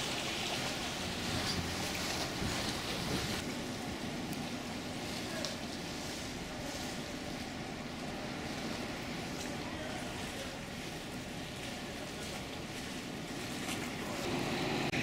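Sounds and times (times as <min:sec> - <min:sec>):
ship engine rumble: 0:00.0 - 0:15.0
water churning against wall: 0:00.0 - 0:15.0.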